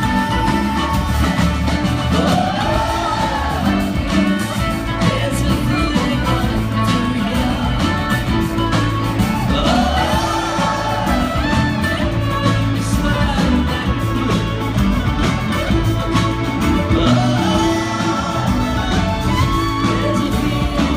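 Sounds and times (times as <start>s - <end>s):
bass: 0.0s - 20.9s
person singing: 0.0s - 20.9s.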